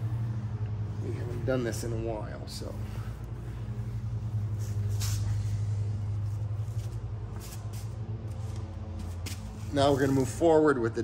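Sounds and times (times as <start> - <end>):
low mechanical hum: 0.0 - 11.0
rag wiping a tire: 0.0 - 11.0.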